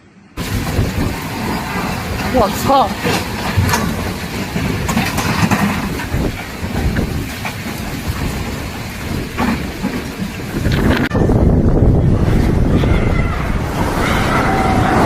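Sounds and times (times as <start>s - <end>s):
strong wind: 0.0s - 15.0s
heavy rain: 0.3s - 15.0s.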